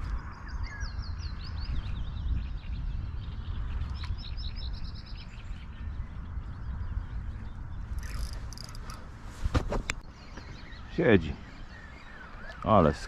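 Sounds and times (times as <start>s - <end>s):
songbird chirping and trilling: 0.0s - 9.1s, 10.0s - 13.0s.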